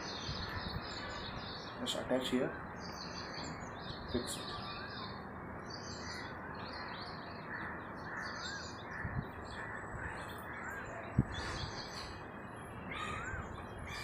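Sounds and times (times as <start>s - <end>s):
small birds chirping: 0.0s - 14.0s
steady background noise: 0.0s - 14.0s.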